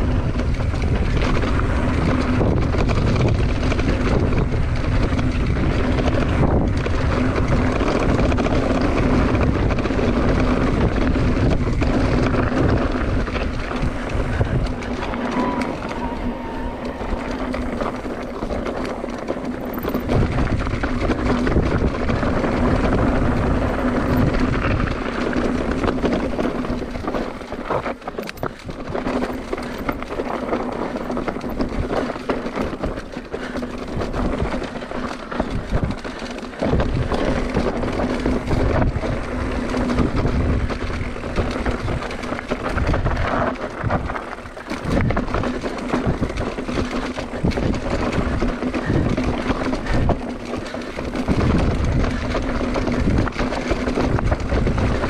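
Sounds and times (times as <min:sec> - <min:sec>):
bike rattling: 0:00.0 - 0:55.0
bike rolling over dirt trail: 0:00.0 - 0:55.0
wind rumble on microphone: 0:00.0 - 0:55.0.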